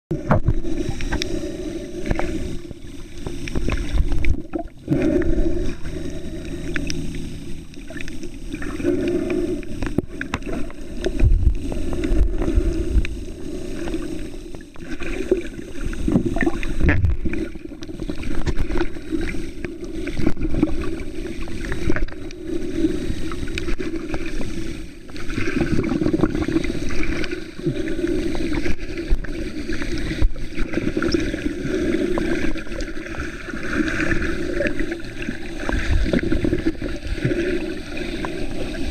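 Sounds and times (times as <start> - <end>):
muffled underwater water rumble: 0.1 - 38.9.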